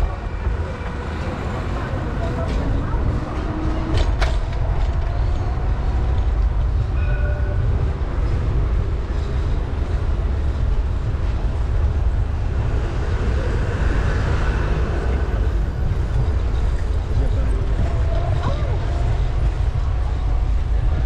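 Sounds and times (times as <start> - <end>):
faint street sounds: 0.0 - 21.0
wind and road noise: 0.0 - 21.0.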